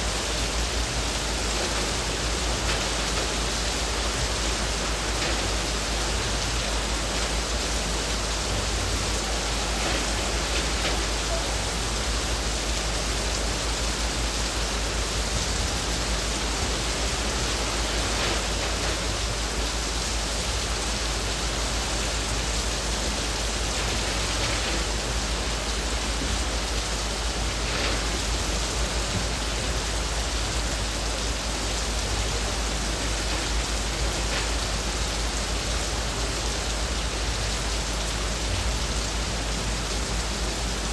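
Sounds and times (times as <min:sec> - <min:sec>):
heavy rain on leaves: 0:00.0 - 0:40.9
rain drop spatters: 0:00.0 - 0:40.9.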